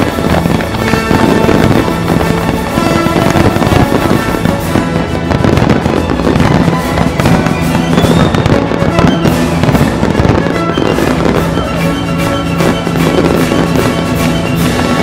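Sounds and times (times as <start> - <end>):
fireworks bursting and crackling: 0.0 - 15.0
loud music: 0.0 - 15.0.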